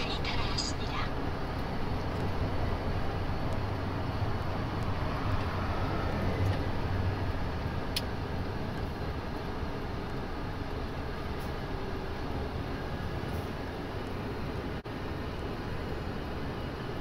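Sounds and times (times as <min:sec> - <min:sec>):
vehicle engine drone and tyre noise: 0:00.0 - 0:17.0.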